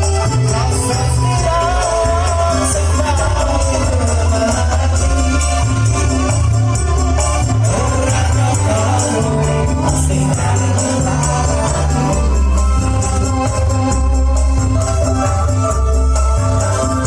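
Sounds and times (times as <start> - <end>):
band music with steady beat: 0.0 - 17.0
bass notes: 0.0 - 17.0
person singing: 0.0 - 17.0.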